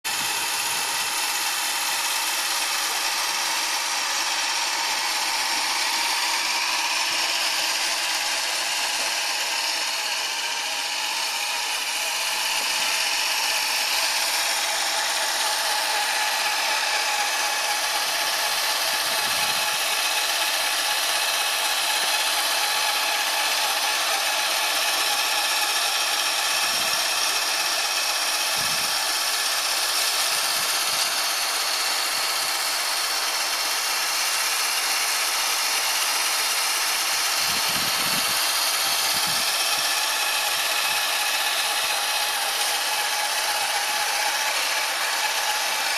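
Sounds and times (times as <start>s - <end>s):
tractor engine whining: 0.0s - 45.9s.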